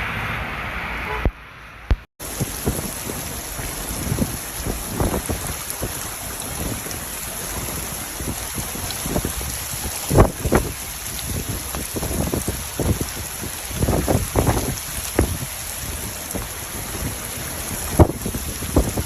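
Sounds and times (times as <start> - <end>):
steady rainfall: 1.9 - 19.0.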